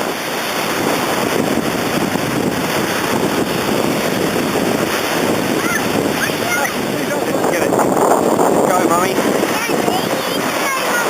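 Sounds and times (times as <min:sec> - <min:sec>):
sea water noise: 0:00.0 - 0:11.0
wind across microphone: 0:00.0 - 0:11.0.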